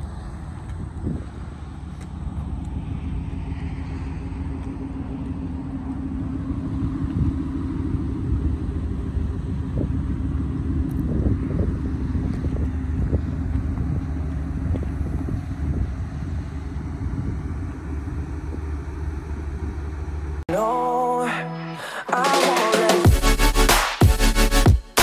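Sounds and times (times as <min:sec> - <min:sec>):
truck engine idling: 0:00.0 - 0:20.8.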